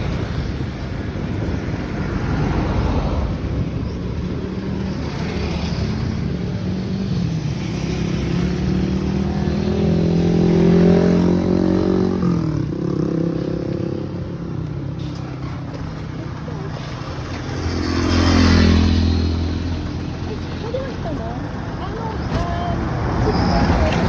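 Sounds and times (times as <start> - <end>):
motor vehicle passing by: 1.8 - 24.0.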